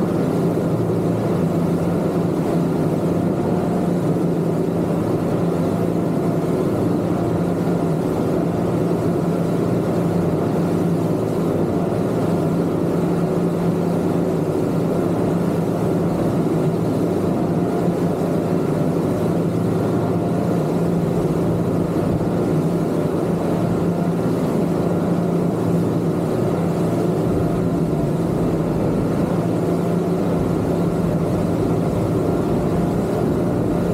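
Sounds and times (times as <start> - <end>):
outboard motors droning: 0.0 - 33.9.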